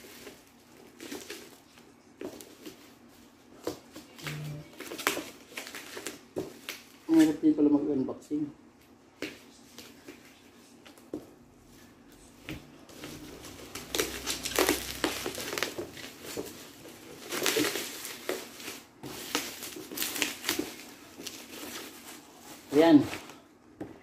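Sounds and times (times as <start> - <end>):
bubble wrap crinkling: 0.0 - 7.5, 8.8 - 23.5.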